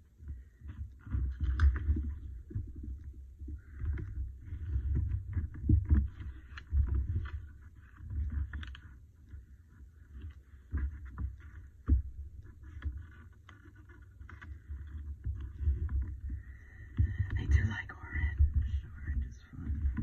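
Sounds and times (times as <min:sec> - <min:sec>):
paper rubbing and rustling: 0:00.7 - 0:16.9.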